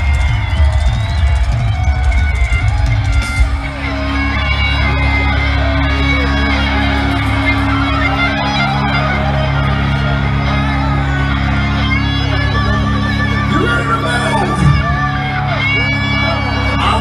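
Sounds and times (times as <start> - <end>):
crowd shouting: 0.0 - 17.0
distorted electric guitar: 0.0 - 17.0
heavy drums: 0.0 - 17.0
live heavy metal band: 0.0 - 17.0.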